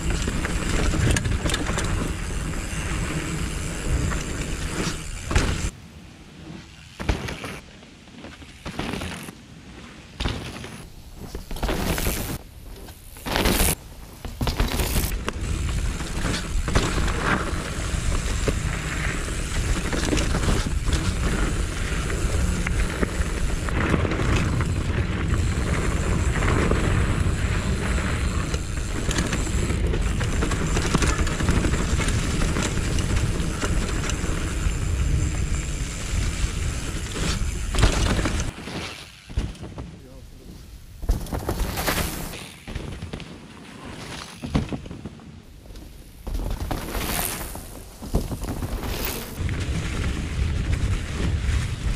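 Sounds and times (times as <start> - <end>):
bike rattles and clicks: 0.0 - 5.8, 6.4 - 51.9
bike tyres rumbling on dirt: 0.0 - 51.9.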